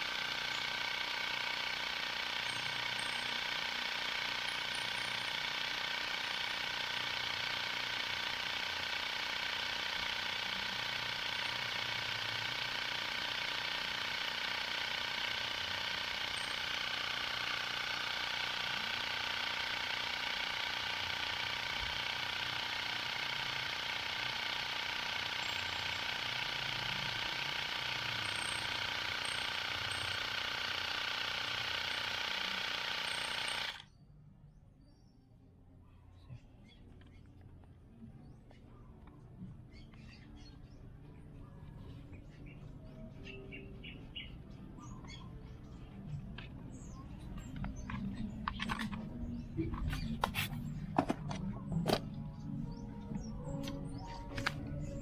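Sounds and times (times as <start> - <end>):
tyre inflator compressor running: 0.0 - 34.0, 41.6 - 55.0.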